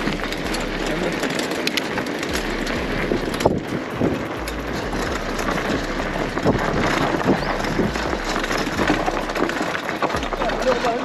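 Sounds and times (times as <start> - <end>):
bike tyres crunching on gravel: 0.0 - 11.0
small clicks and rattles: 0.0 - 11.0
wind buffeting microphone: 0.0 - 11.0.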